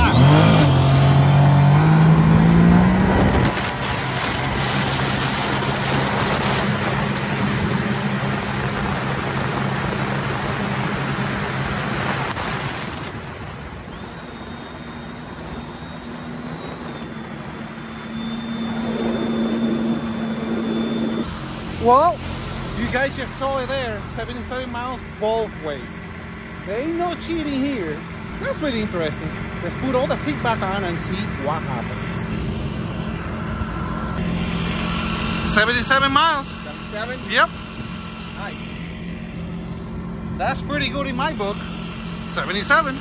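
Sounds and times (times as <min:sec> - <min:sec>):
supercharger whine: 0:00.0 - 0:43.0
watercraft engine at full throttle: 0:00.0 - 0:43.0.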